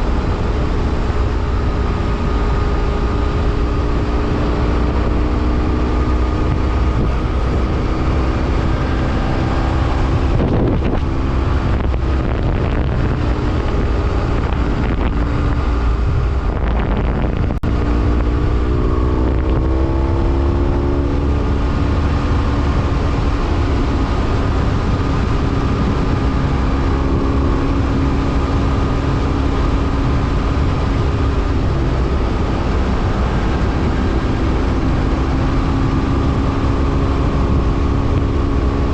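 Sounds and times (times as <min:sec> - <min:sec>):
motorcycle engine running: 0:00.0 - 0:38.9
wind rumble on microphone: 0:00.0 - 0:38.9.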